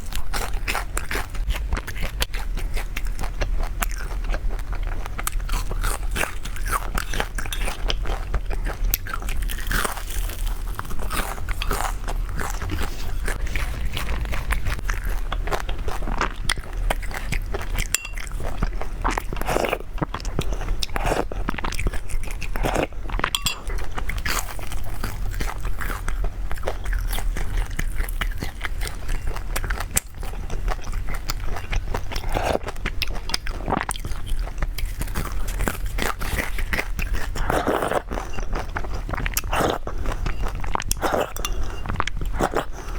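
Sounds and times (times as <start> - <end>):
person chewing crisp food: 0.0 - 42.9
steady low hum: 0.0 - 42.9.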